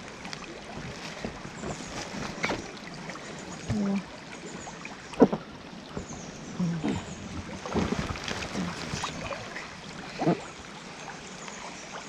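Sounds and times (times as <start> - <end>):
river water running over rocks: 0.0 - 12.0.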